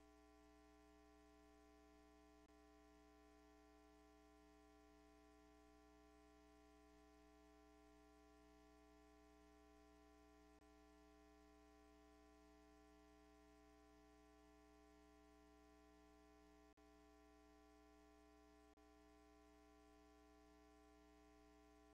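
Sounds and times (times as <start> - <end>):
faint electrical hum: 0.0 - 21.9.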